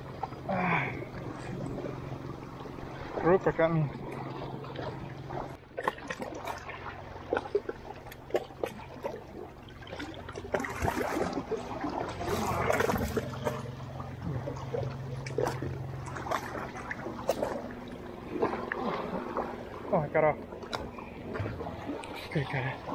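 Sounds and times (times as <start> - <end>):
steady low hum: 0.0 - 22.9
waves lapping against rocks: 0.0 - 22.9.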